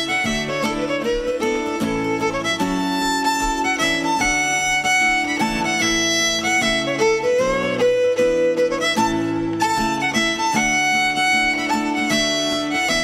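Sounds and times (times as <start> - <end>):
fiddle playing dance tune: 0.0 - 13.0
guitar chords: 0.0 - 13.0.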